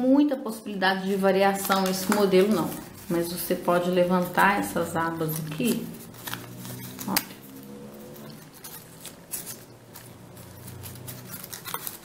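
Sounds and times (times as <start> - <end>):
paper crinkling: 0.8 - 12.0
small paper clicks: 1.0 - 7.6, 8.2 - 12.0.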